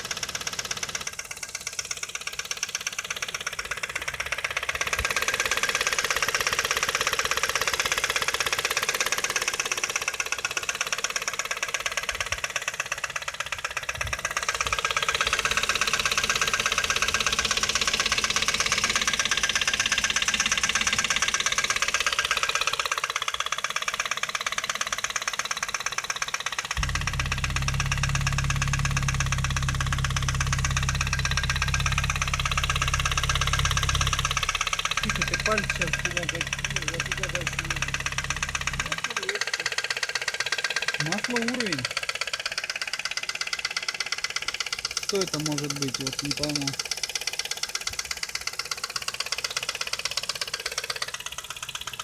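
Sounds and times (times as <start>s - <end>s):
car engine with metallic knock: 0.0s - 52.0s.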